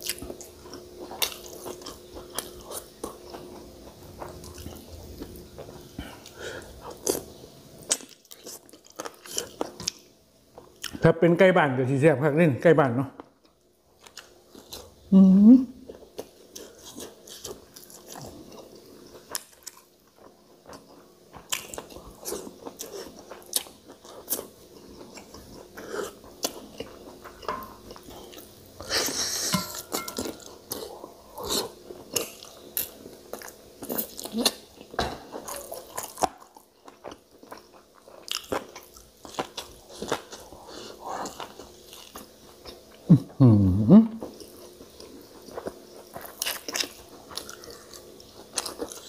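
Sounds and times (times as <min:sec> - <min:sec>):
man chewing food: 0:00.0 - 0:11.0, 0:13.2 - 0:15.1, 0:15.8 - 0:49.0.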